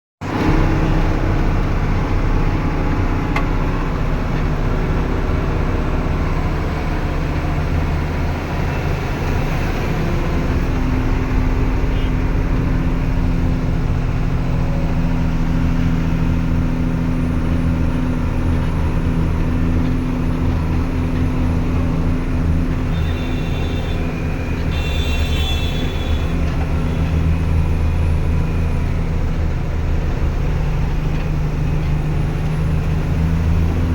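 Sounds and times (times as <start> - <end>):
road noise: 0.2 - 33.9
truck engine droning: 0.2 - 33.9.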